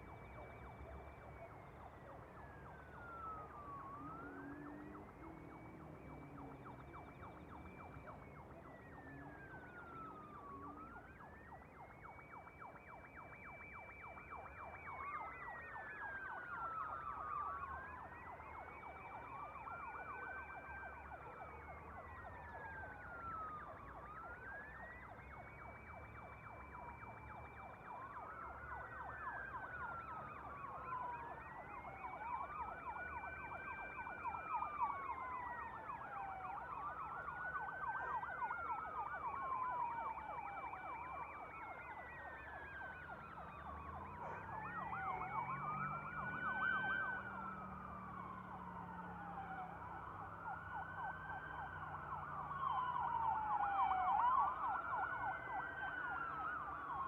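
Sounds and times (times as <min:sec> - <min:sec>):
low traffic rumble: 0:00.0 - 0:57.0
wailing sirens: 0:00.0 - 0:57.0
warbling siren: 0:00.0 - 0:57.0.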